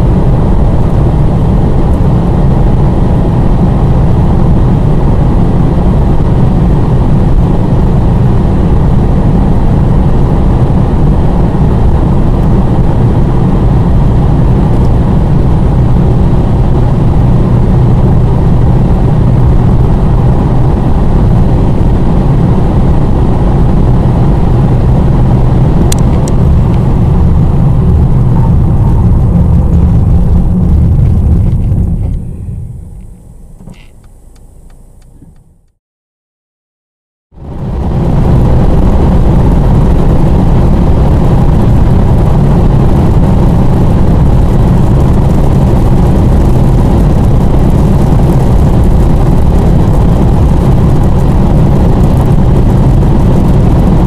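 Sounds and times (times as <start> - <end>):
diesel engine drone: 0.0 - 35.8, 37.4 - 54.0
wind and road noise roar: 0.0 - 35.8, 37.3 - 54.0.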